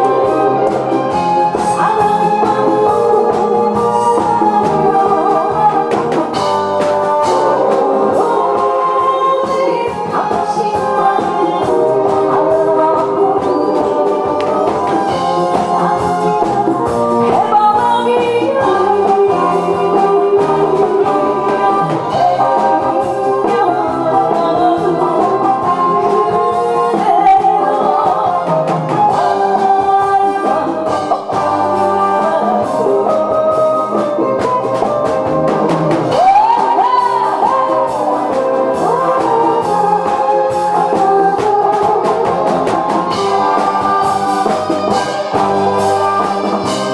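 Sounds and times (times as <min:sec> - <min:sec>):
woman singing into a microphone: 0:00.0 - 0:34.6, 0:36.1 - 0:46.9
backing track with drum beat: 0:00.0 - 0:46.9.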